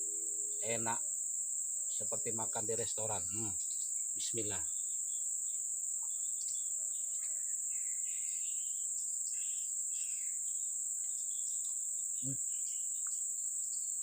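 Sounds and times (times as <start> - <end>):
faint insect chirps: 0.0 - 14.0
insect chorus trilling: 0.0 - 14.0.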